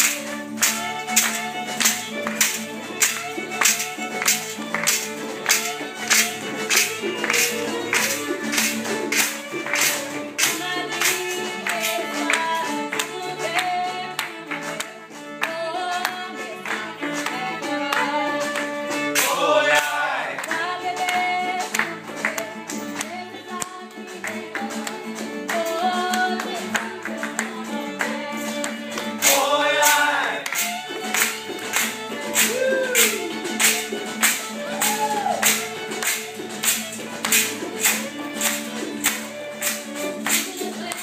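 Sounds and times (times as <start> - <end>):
person singing: 0.0 - 3.2, 4.2 - 41.0
acoustic guitar and fiddle blues: 0.0 - 41.0
hands clapping on the beat: 0.0 - 41.0.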